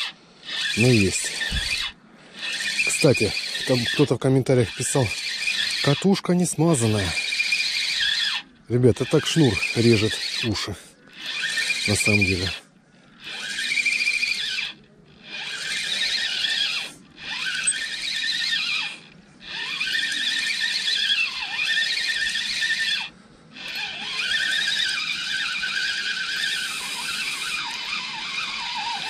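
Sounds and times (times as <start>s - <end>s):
fishing reel line squealing: 0.0s - 29.0s.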